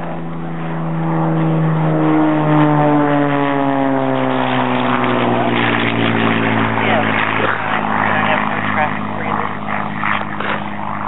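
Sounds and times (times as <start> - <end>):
propeller airplane flying past: 0.0 - 11.0.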